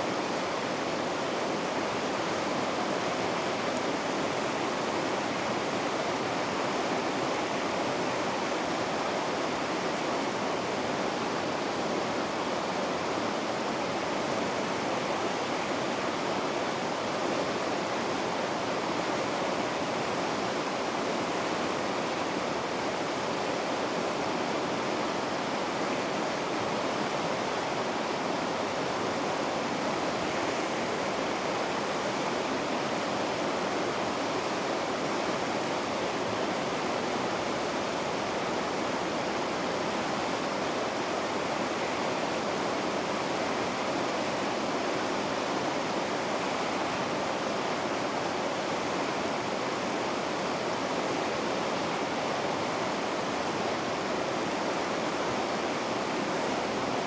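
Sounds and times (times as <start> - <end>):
water rushing in river rapids: 0.0 - 57.0.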